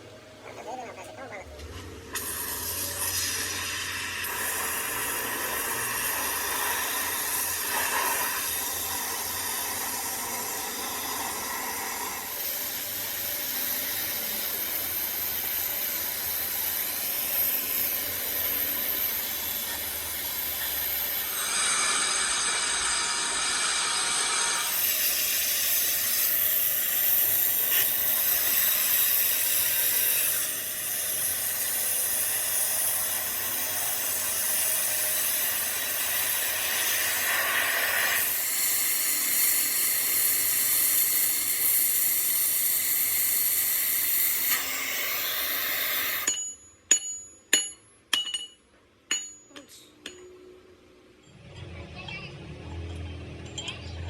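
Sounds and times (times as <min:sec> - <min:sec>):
loud hiss from metal working: 0:02.1 - 0:46.4.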